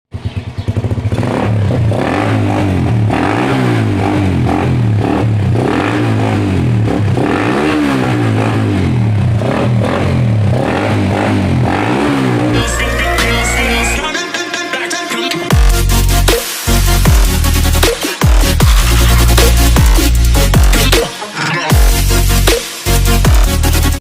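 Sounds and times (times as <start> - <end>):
motorcycle engine revving: 0.1 - 14.0, 15.5 - 21.1.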